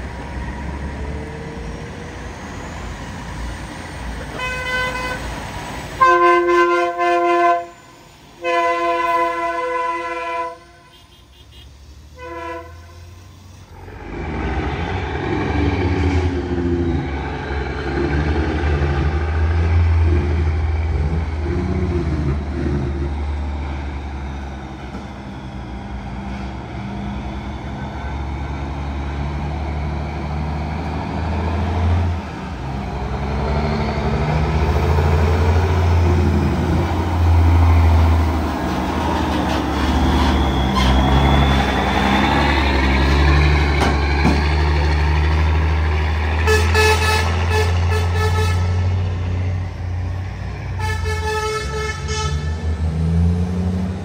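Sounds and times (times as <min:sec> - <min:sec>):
diesel truck engine: 0:00.0 - 0:54.0.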